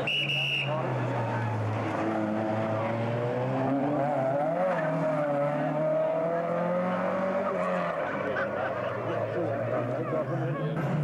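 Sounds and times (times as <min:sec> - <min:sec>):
rally car engine revving: 0:00.8 - 0:11.0.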